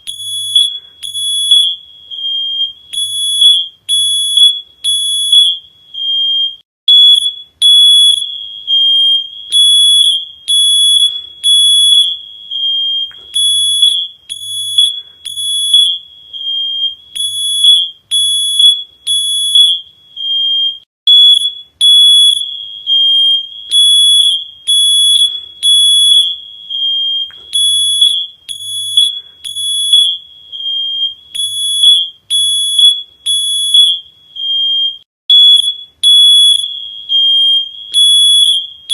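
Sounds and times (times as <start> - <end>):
high-pitched electronic alarm beeping: 0.0 - 38.9.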